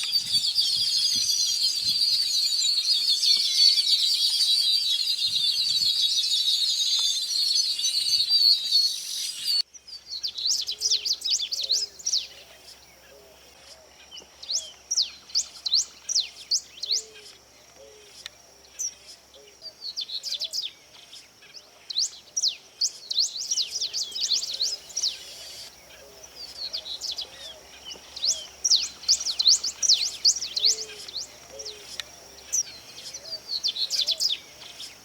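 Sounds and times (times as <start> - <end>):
birds chirping: 0.0 - 35.0
lower bird calls: 0.0 - 35.0.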